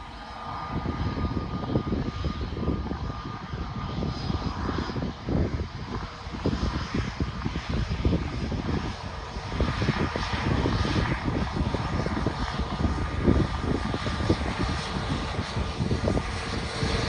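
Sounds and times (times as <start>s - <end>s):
jet engine hiss and whine: 0.0s - 17.0s
low rumble of rolling airliner: 0.0s - 17.0s.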